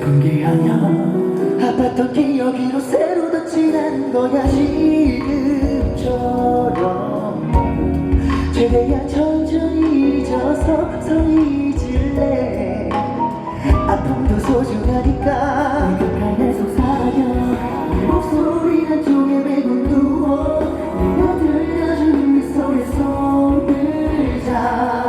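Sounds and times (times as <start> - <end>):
live band playing: 0.0 - 25.0
person singing: 0.0 - 25.0.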